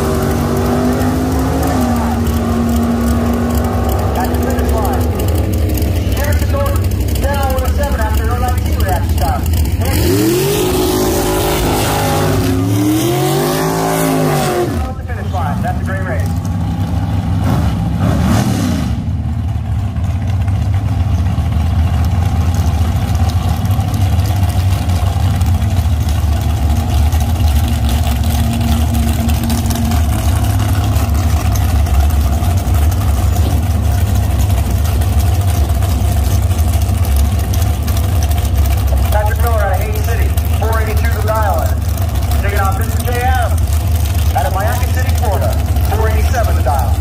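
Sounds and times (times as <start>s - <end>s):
engine revving: 0.0s - 19.6s, 24.4s - 47.0s
engine idling with deep rumble: 0.0s - 47.0s.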